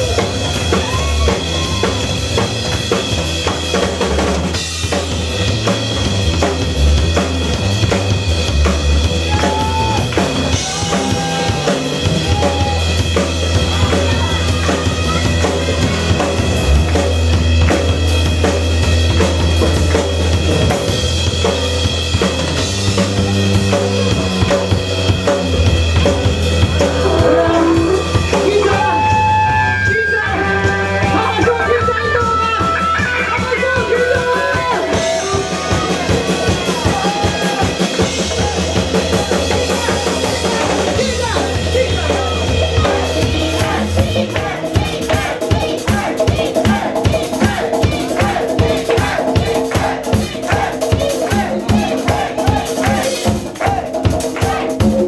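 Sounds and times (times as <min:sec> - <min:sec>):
electric guitars: 0:00.0 - 0:44.6
bass guitar: 0:00.0 - 0:55.0
drum kit beat: 0:00.0 - 0:55.0.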